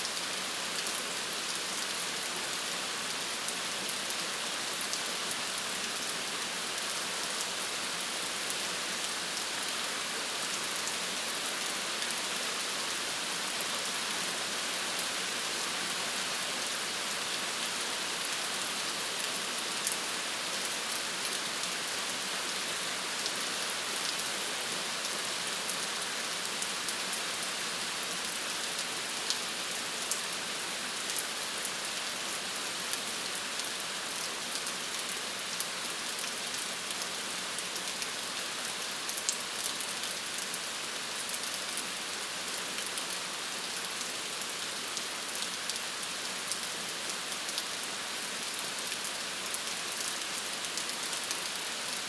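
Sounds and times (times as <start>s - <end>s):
rain on hard surfaces: 0.0s - 52.0s.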